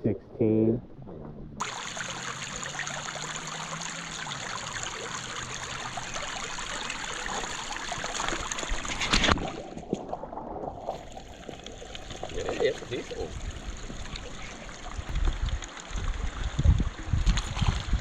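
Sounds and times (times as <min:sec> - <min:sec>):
stream water running: 0:01.6 - 0:18.0.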